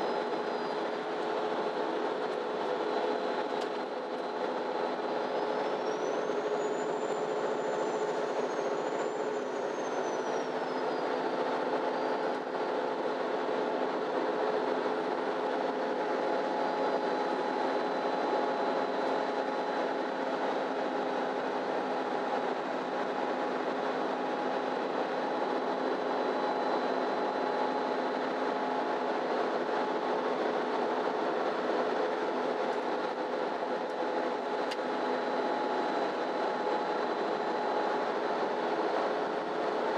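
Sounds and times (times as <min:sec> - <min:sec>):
bus engine drone: 0:00.0 - 0:39.9
road and tyre noise: 0:00.0 - 0:39.9.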